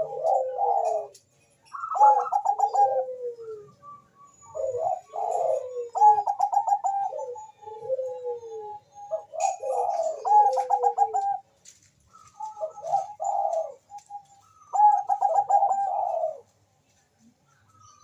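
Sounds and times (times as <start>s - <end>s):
dove cooing: 0.0s - 16.5s.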